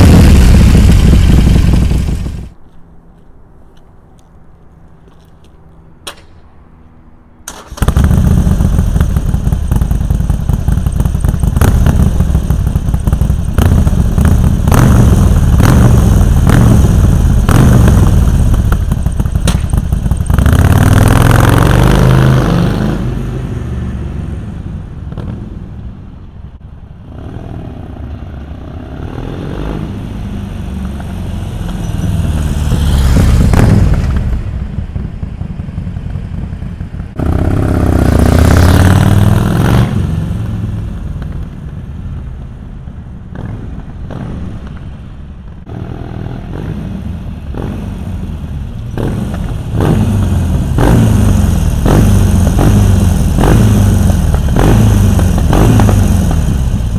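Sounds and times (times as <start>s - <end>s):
motorcycle engine revving: 0.0s - 2.5s, 7.5s - 25.8s, 27.0s - 42.3s, 43.3s - 44.8s, 45.6s - 56.9s
motorcycle passing by: 7.5s - 25.9s, 27.0s - 42.5s, 43.3s - 44.8s, 45.6s - 56.9s.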